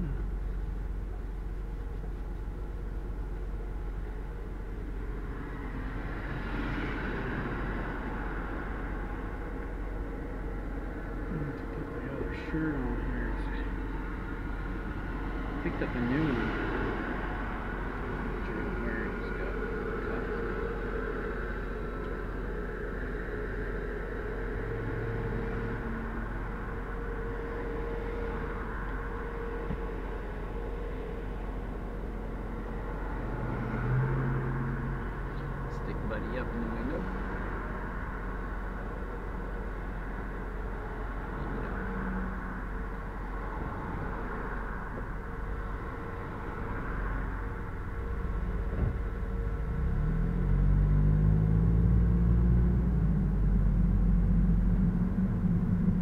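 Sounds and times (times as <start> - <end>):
car road and engine rumble: 0.0 - 56.0
faint steady hum: 0.0 - 56.0.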